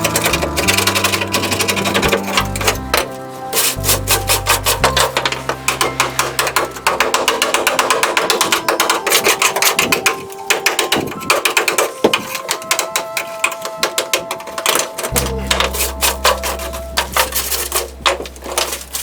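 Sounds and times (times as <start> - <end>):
synth music with ticking beat: 0.0 - 19.0.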